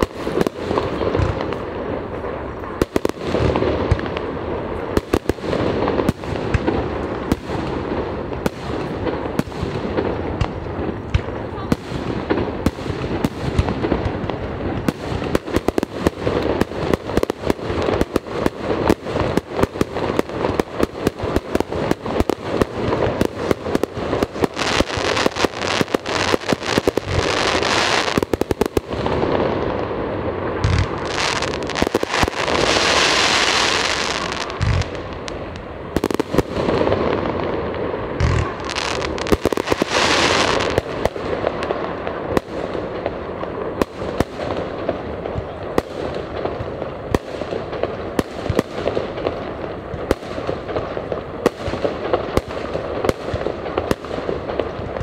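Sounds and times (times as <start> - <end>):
continuous crackling hiss: 0.0 - 55.0
deep fireworks booms: 0.0 - 55.0
fireworks bangs and crackles: 0.0 - 55.0.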